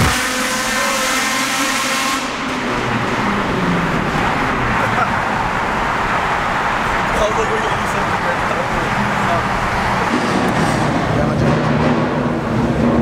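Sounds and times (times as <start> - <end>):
cars driving through a tunnel: 0.0 - 13.0.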